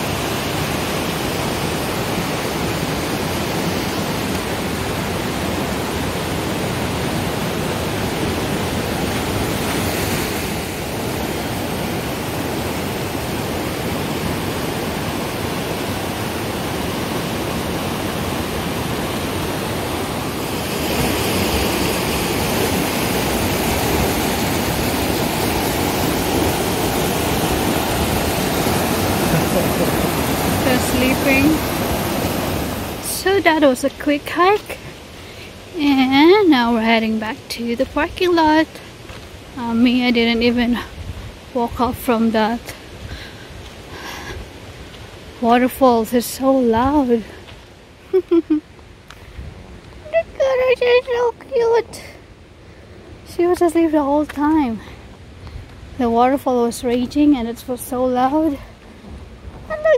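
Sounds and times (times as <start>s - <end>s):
waterfall and rapids roaring: 0.0s - 59.9s.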